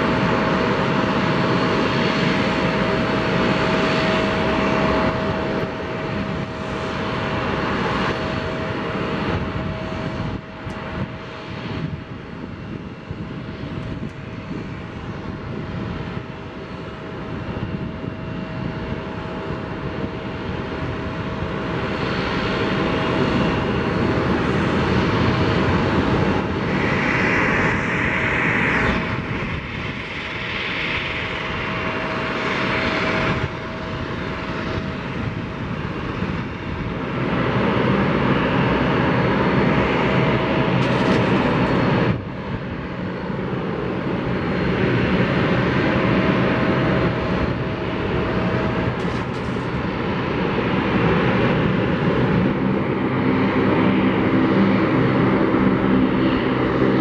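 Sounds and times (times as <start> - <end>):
aircraft engines with steady whine: 0.0 - 57.0.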